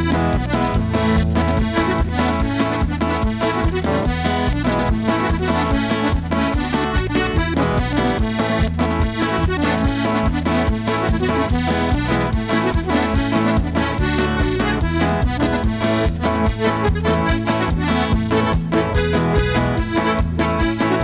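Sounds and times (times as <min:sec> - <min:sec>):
steady drum beat: 0:00.0 - 0:20.9
accordion playing a tune: 0:00.0 - 0:21.0.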